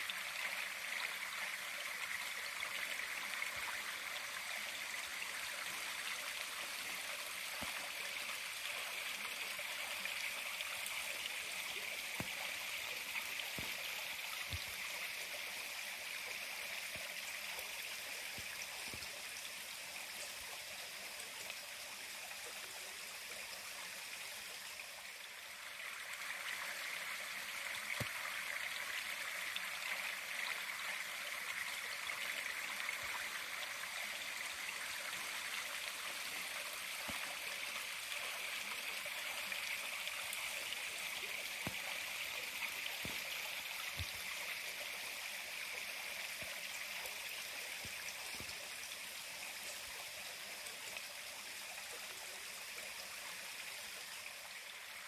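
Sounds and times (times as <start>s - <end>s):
flowing creek: 0.0s - 55.0s.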